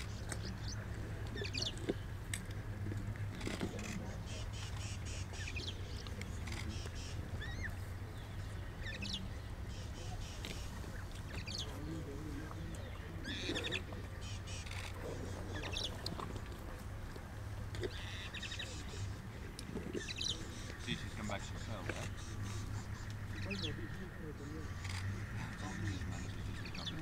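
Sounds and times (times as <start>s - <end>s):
birds chirping and twittering: 0.0s - 27.0s
steady low hum: 0.0s - 27.0s.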